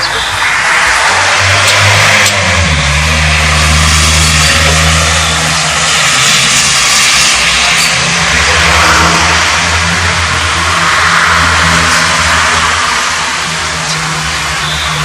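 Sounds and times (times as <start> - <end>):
street traffic noise: 0.0 - 15.0
vehicle engine humming: 0.0 - 15.0.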